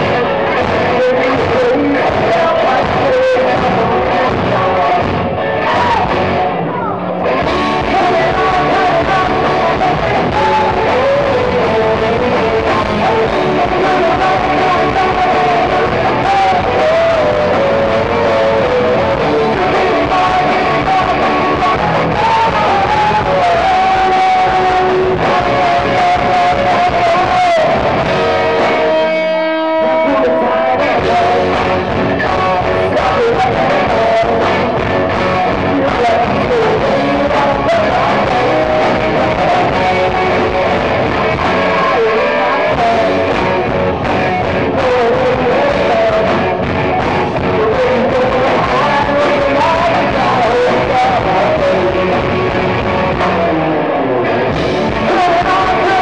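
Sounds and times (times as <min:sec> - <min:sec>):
lead vocals: 0:00.0 - 0:56.0
live rock band: 0:00.0 - 0:56.0.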